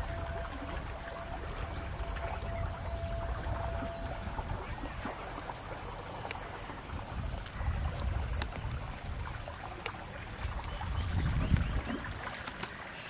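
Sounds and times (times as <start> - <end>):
wind buffeting microphone: 0.0 - 12.7
insects chirping: 0.0 - 13.0.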